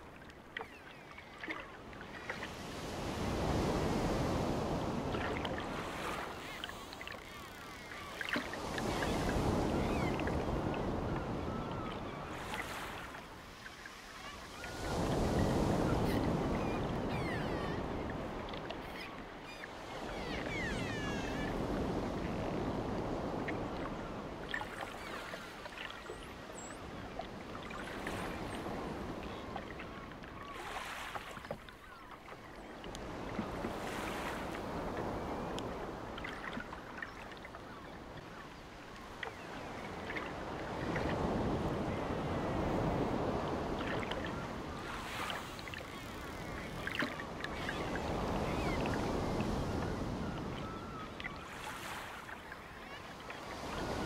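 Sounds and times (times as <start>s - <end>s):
water splashes and trickles: 0.0s - 3.4s, 4.8s - 20.4s, 23.4s - 41.4s, 43.7s - 54.0s.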